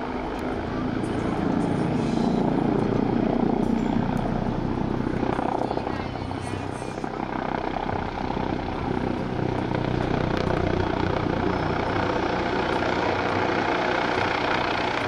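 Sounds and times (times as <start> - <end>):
helicopter rotor thrum: 0.0 - 15.0.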